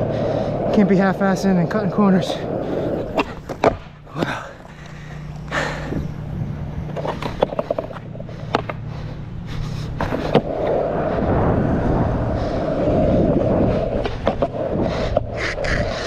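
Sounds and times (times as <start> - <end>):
skateboard rolling on asphalt: 0.0 - 16.0.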